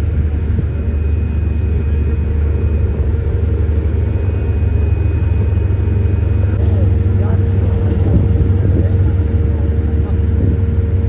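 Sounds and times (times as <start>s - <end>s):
faint steady hum: 0.0s - 11.0s
ferry engine low rumble: 0.0s - 11.0s.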